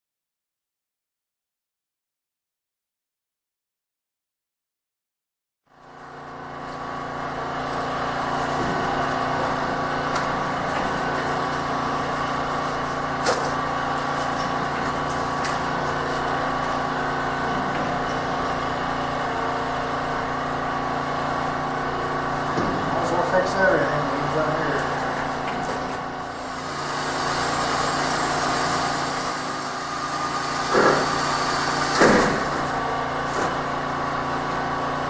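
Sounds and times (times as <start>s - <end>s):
machine humming: 5.9s - 35.0s.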